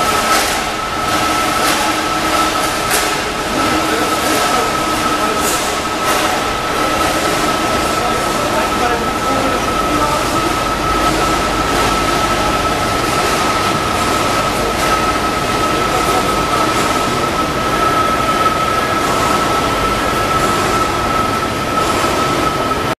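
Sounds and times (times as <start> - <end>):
mechanical noise: 0.0 - 23.0.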